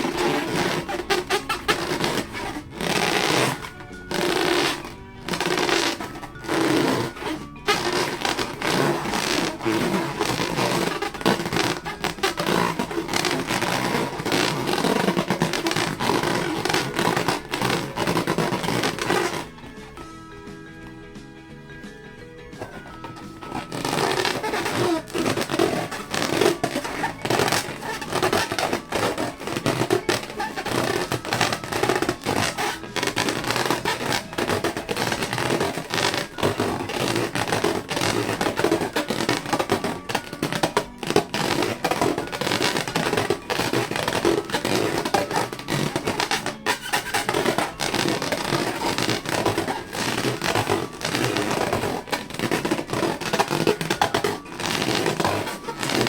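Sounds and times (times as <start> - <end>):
rubber balloons squeaking: 0.0 - 56.0.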